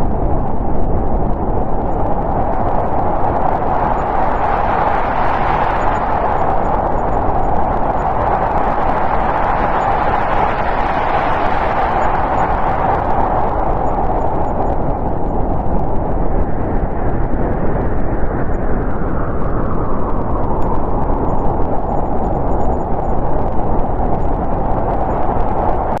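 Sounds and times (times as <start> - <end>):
strong snowstorm wind blowing: 0.0 - 26.0.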